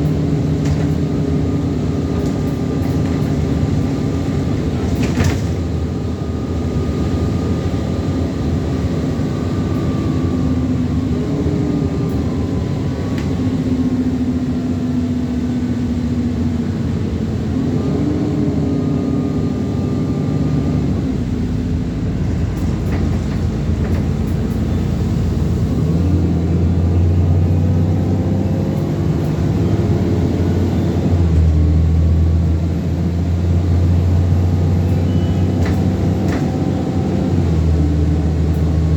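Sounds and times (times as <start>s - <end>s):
bus diesel engine under load: 0.0s - 38.9s
deep heavy engine drone: 0.0s - 38.9s.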